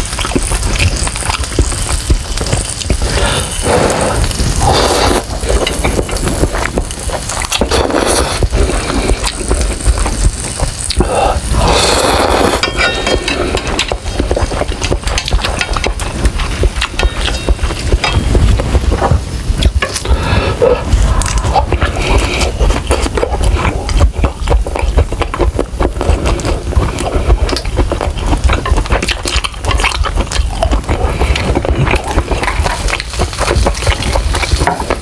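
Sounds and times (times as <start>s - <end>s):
noodle slurping: 0.0s - 19.0s, 19.9s - 35.0s
wet chewing and smacking: 0.0s - 35.0s.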